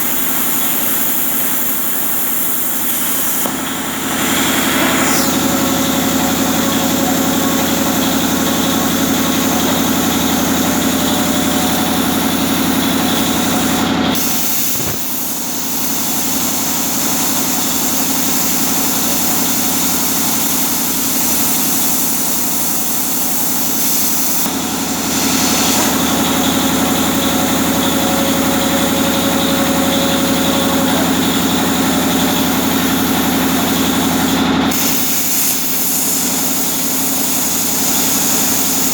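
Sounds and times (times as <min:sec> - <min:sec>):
machine hum: 0:00.0 - 0:17.6, 0:18.4 - 0:35.8
plasma cutter hiss: 0:00.0 - 0:38.9.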